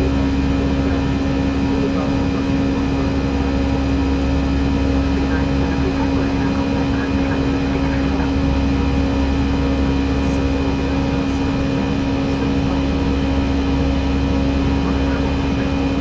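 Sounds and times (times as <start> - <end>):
aircraft cockpit engine rush: 0.0 - 16.0
constant low hum: 0.0 - 16.0.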